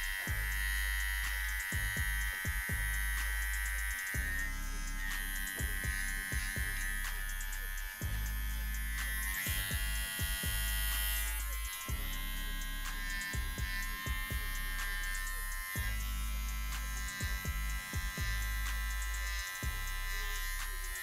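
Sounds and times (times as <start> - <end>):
background music with deep bass: 0.0 - 21.0
hair trimmer buzzing: 0.0 - 21.0.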